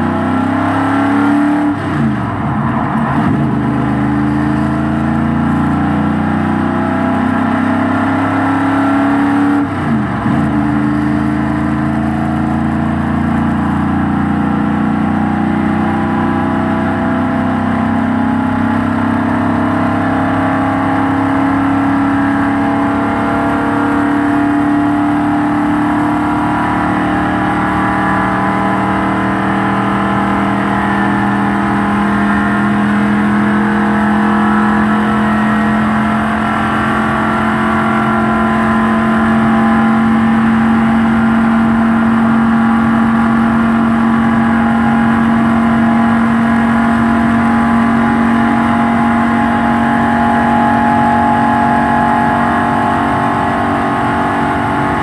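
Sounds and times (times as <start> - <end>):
race car engine at full speed: 0.0 - 55.0.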